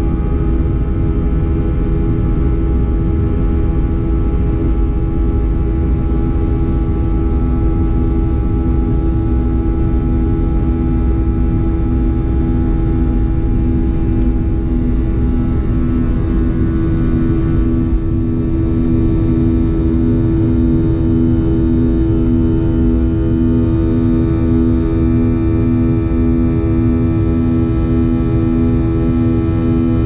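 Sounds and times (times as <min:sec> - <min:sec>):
airplane cabin drone: 0:00.0 - 0:30.0.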